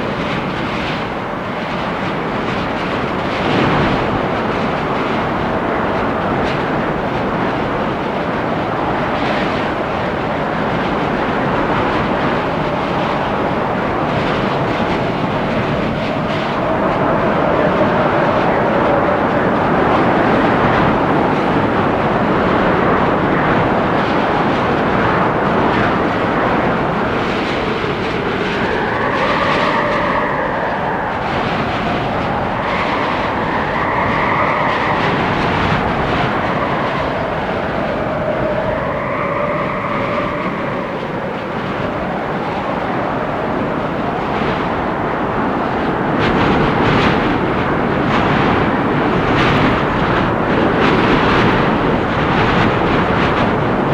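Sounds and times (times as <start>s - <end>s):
storm wind gusting through trees: 0.0s - 53.9s
wind howling: 0.0s - 53.9s.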